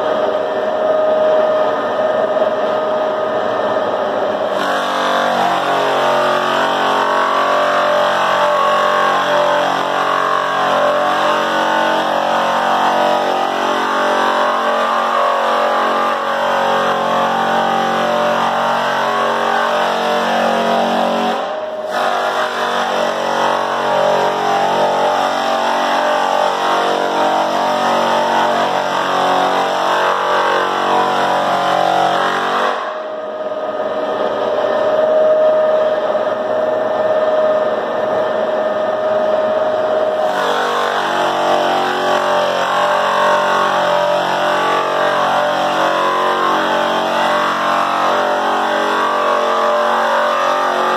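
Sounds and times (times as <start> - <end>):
floor sander running: 0.0 - 50.9.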